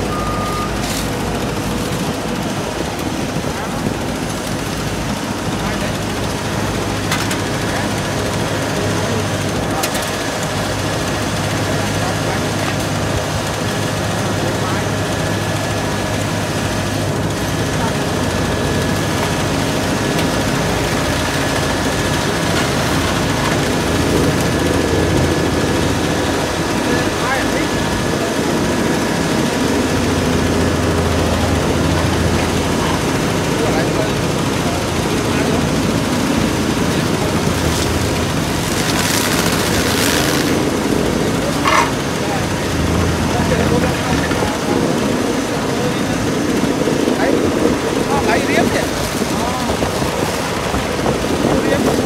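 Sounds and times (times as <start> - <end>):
diesel engine drone: 0.0 - 52.0
thin steady whine: 0.0 - 52.0.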